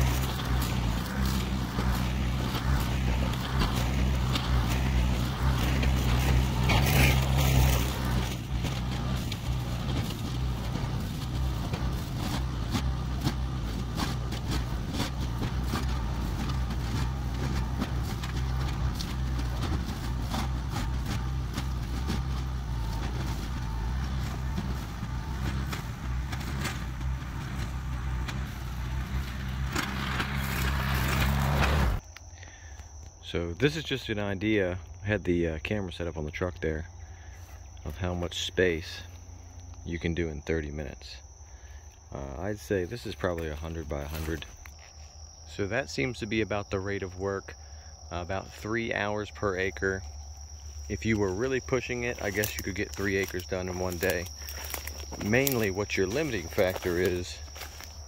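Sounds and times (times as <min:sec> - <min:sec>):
tractor engine under load: 0:00.0 - 0:32.0, 0:34.6 - 0:58.0.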